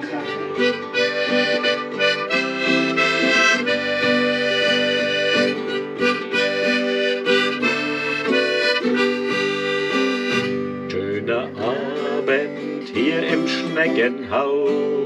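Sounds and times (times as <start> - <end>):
harmonica: 0.0 - 14.4
strummed acoustic guitar: 0.0 - 15.0.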